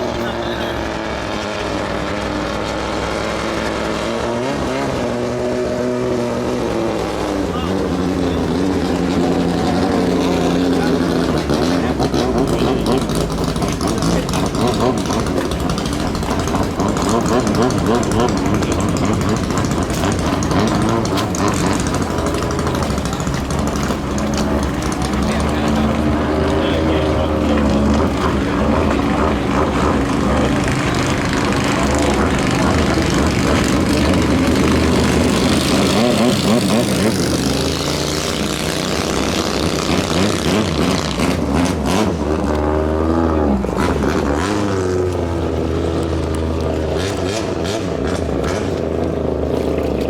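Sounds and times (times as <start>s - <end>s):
racing boat engine at high revs: 0.0s - 50.0s.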